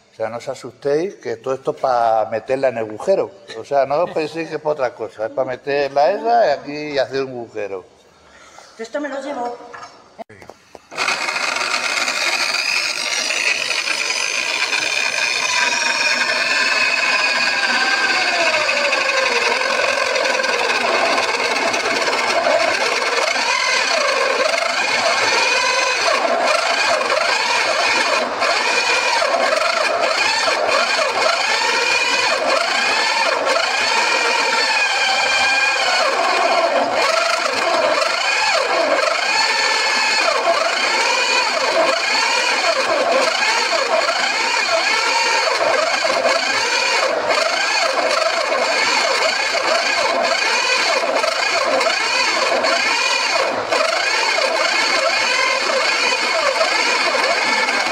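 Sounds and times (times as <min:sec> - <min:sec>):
power drill boring into wood: 0:10.9 - 0:57.9.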